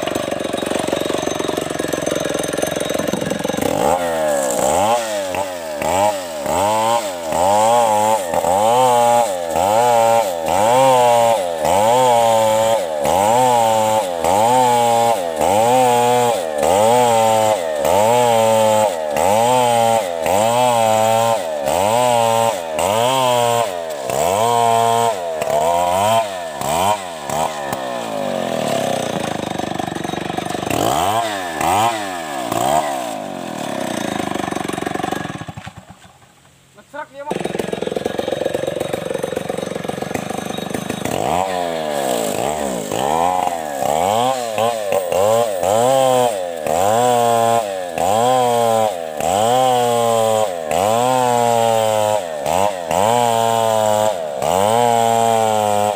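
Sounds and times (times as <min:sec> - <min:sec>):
chainsaw cutting wood: 0:00.0 - 0:55.9
chainsaw revving: 0:00.0 - 0:55.9.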